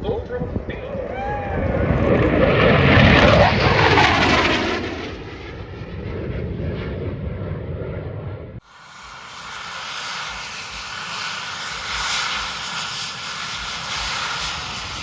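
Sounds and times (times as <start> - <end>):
airplane flying past: 0.0 - 15.0.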